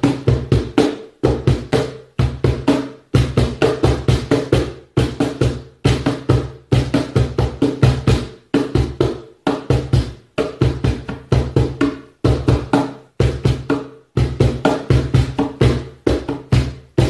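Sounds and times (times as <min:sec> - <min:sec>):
cajon rhythm played by hand: 0:00.0 - 0:17.0.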